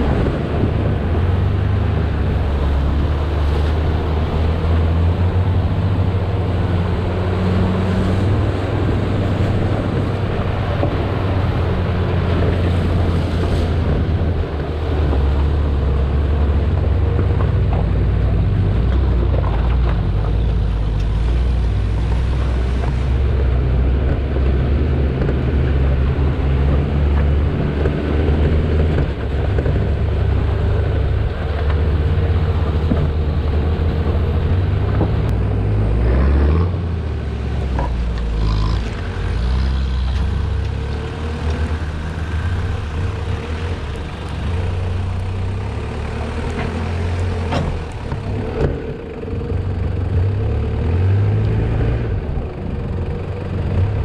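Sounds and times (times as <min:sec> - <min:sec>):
car engine running at low revs: 0:00.0 - 0:54.0.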